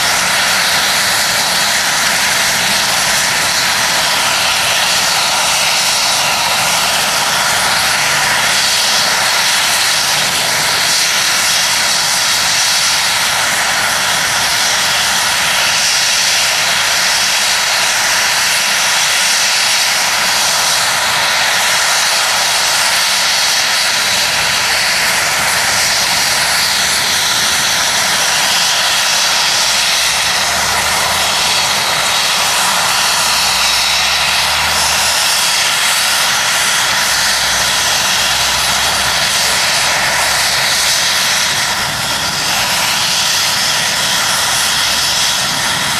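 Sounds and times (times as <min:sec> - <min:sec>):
helicopter engine and rotor whine: 0:00.0 - 0:45.9.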